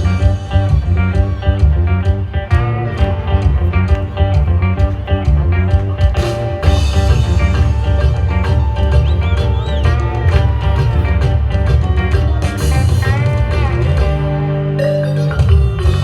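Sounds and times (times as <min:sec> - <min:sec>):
folk dance music: 0:00.0 - 0:16.0
strong bass line: 0:00.0 - 0:16.0.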